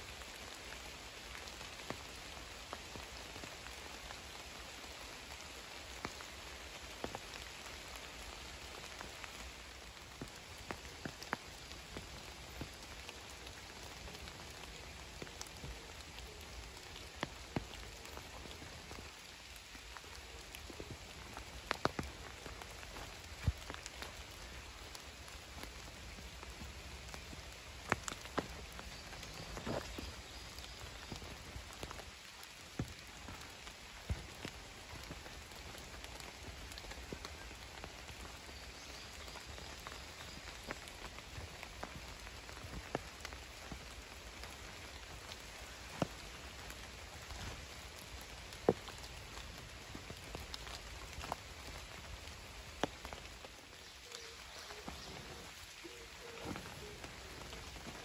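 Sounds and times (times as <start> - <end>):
light rain hiss: 0.0 - 58.0
raindrops ticking: 0.1 - 58.0.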